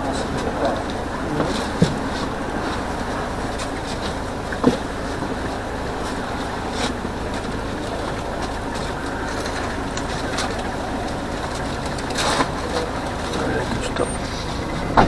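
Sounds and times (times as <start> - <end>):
bus engine and road rumble: 0.0 - 15.0
light rattles and clicks: 0.0 - 15.0.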